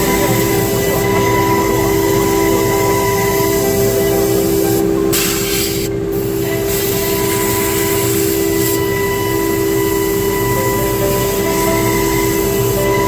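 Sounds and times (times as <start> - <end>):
router machine whine: 0.0 - 13.0.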